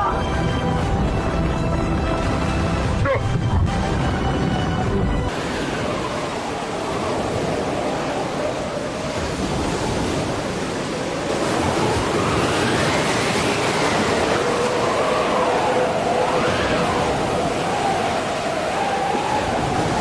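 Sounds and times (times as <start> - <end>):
sea water rushing: 0.0 - 20.0
wind rushing: 0.0 - 20.0.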